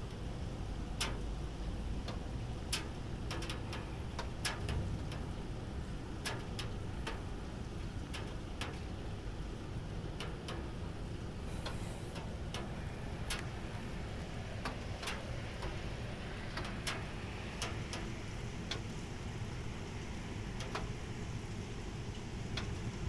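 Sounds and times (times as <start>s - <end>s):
steady low rumble: 0.0s - 22.2s
rainwater dripping: 0.0s - 23.0s.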